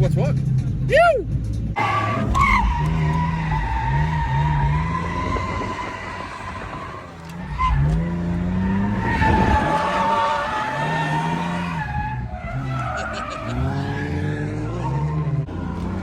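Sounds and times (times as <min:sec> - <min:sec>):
car engine revving: 0:00.3 - 0:16.0
tyres squealing: 0:01.8 - 0:15.2.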